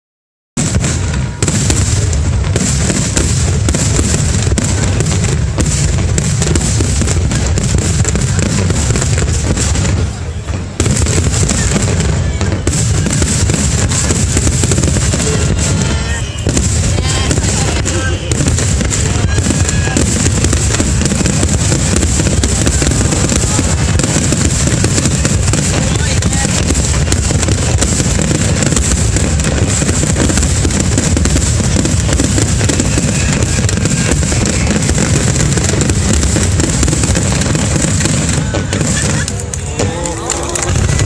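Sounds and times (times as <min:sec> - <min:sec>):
fireworks booming and crackling: 0:00.6 - 0:41.0.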